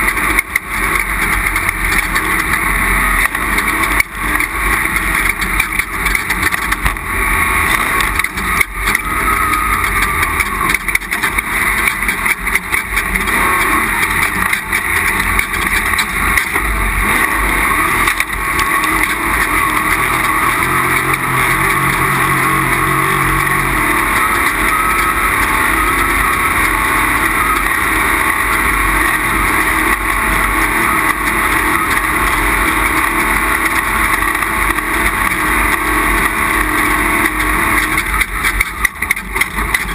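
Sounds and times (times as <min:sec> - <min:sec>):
race vehicle engine: 0:00.0 - 0:39.9
wind: 0:00.0 - 0:39.9.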